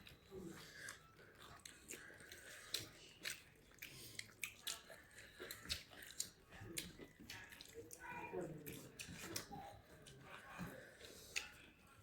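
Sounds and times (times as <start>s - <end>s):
person chewing food: 0.0s - 8.0s, 8.6s - 12.0s.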